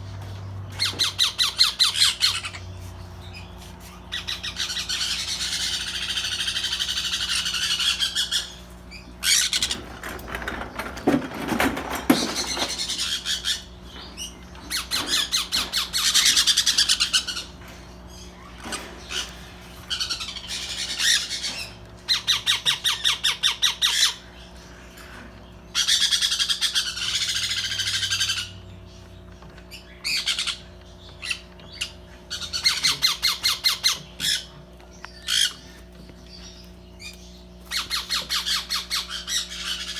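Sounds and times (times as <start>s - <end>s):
parrots squawking: 0.7s - 10.6s, 11.6s - 24.4s, 25.7s - 28.7s, 29.7s - 39.9s.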